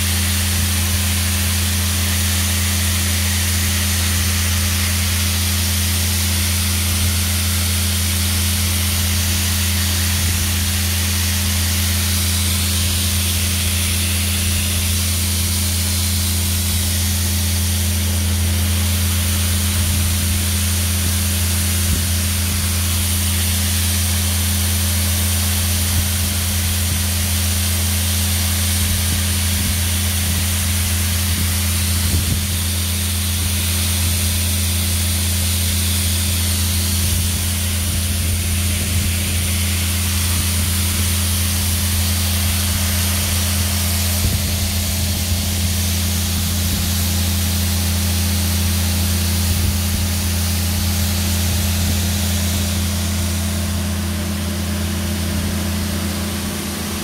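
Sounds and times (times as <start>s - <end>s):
grain auger humming: 0.0s - 57.0s.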